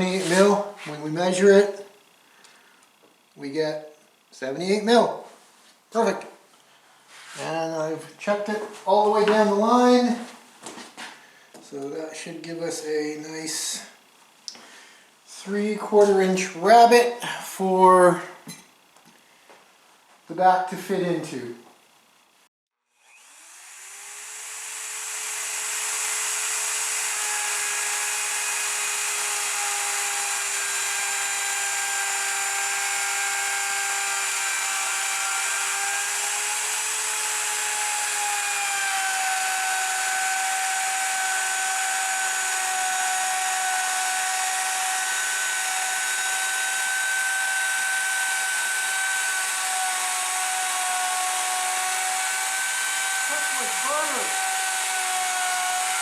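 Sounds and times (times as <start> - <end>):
wood router whining: 0.0 - 4.8, 7.1 - 22.3, 23.0 - 56.0.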